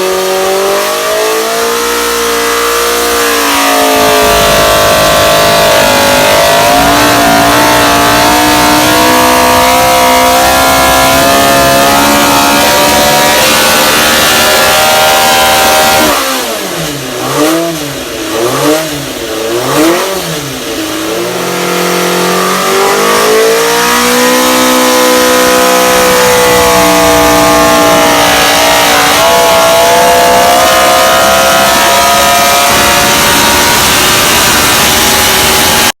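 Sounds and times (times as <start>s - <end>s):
racing engine revving: 0.0s - 36.0s.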